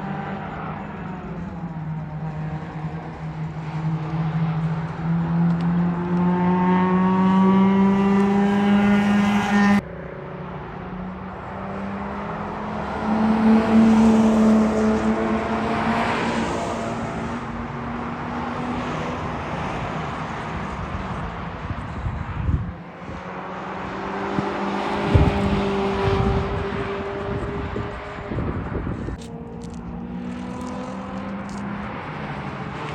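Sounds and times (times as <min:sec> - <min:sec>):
car passing by at speed: 0:02.4 - 0:09.8, 0:11.0 - 0:32.9.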